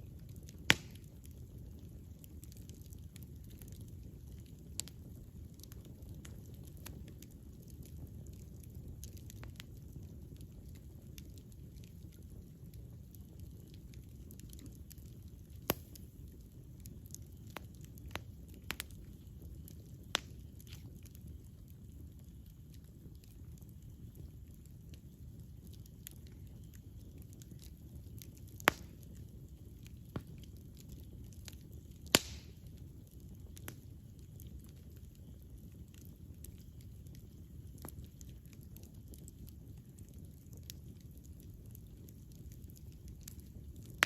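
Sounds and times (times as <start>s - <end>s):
fire crackling and popping: 0.0s - 44.0s
low rumble of flames: 0.0s - 44.0s.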